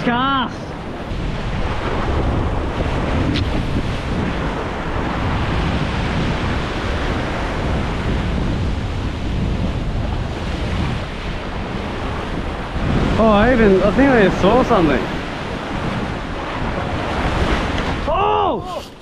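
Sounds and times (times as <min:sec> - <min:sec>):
surf washing over rocks: 0:00.0 - 0:19.0
wind buffeting microphone: 0:00.0 - 0:19.0.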